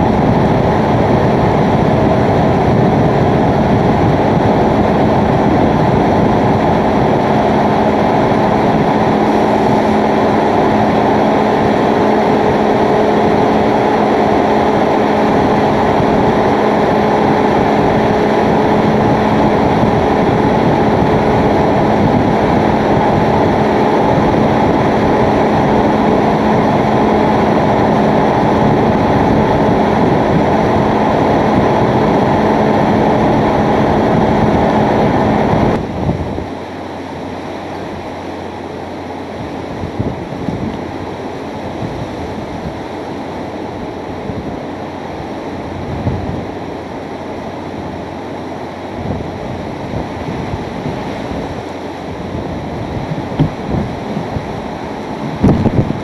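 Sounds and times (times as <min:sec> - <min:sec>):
loud rushing wind: 0:00.0 - 0:56.0
low steady hum: 0:00.0 - 0:56.0.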